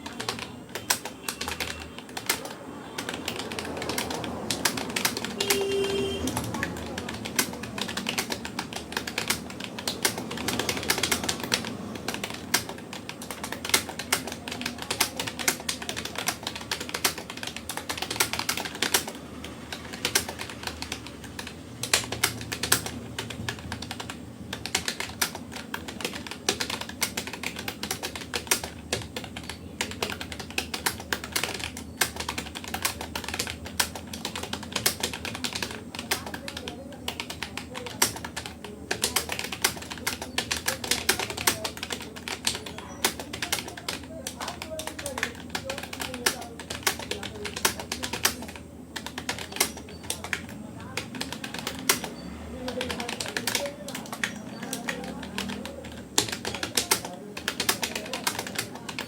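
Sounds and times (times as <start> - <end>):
computer keyboard typing: 0.0 - 59.0.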